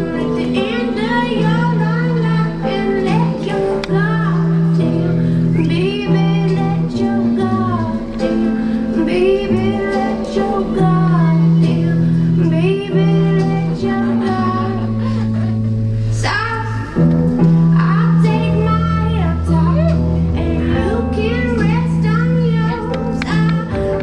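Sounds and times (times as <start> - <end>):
guitar: 0.0 - 24.0
held bass notes: 0.0 - 24.0
lead singing voice: 0.0 - 24.0.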